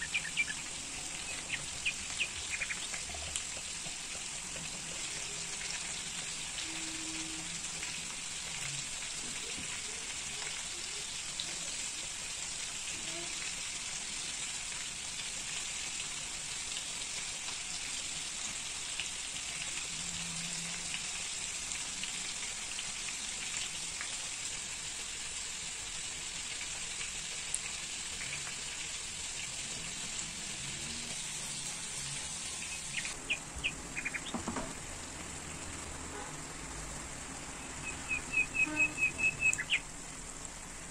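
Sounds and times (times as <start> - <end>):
steady hiss with crackles: 0.0 - 40.9.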